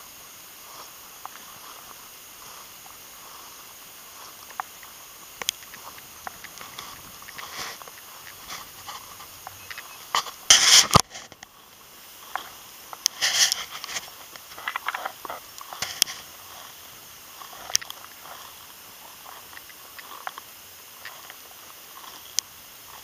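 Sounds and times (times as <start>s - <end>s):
footsteps through dry stubble: 0.6s - 23.0s.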